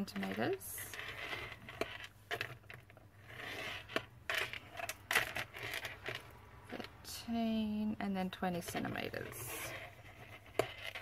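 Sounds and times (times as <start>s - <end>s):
stylus scraping cardstock: 0.0s - 6.8s, 8.5s - 11.0s.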